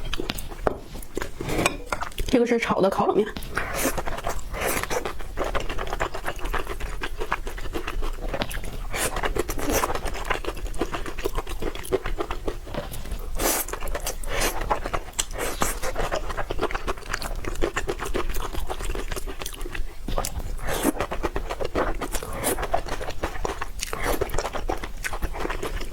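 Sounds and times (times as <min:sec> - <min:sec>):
person chewing noodles: 0:00.0 - 0:02.3, 0:03.4 - 0:25.9
bites and slurps: 0:03.4 - 0:25.9.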